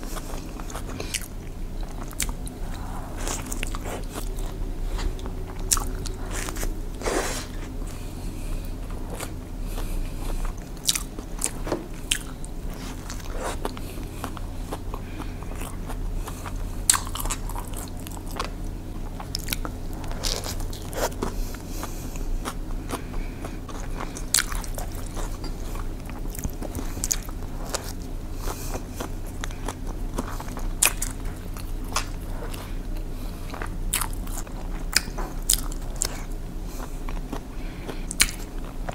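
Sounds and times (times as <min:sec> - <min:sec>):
crunchy sandwich chewing: 0:00.0 - 0:38.9
low hum: 0:00.0 - 0:38.9.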